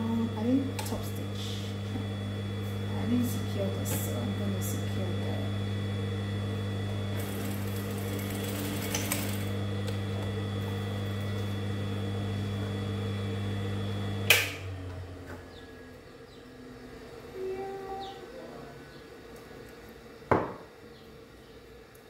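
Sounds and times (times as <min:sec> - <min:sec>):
sewing machine motor hum: 0:00.0 - 0:20.1.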